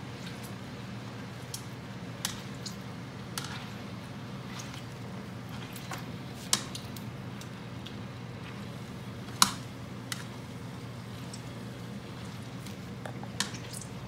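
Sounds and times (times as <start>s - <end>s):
masher squishing grapes: 0.0s - 14.0s.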